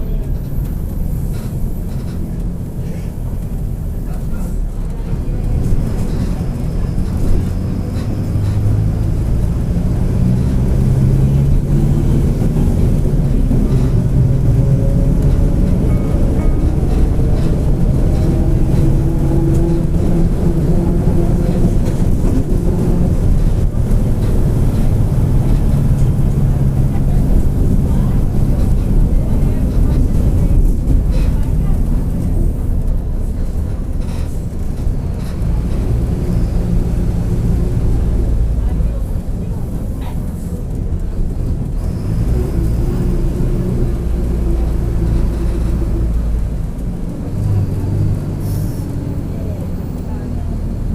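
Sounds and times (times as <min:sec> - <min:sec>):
bus diesel engine running: 0:00.0 - 0:50.9.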